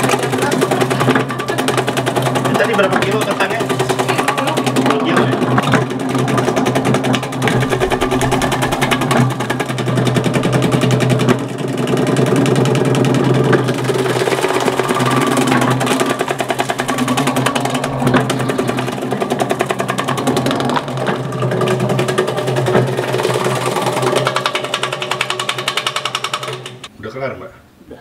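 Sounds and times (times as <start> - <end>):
electric shredder humming: 0.0 - 26.9.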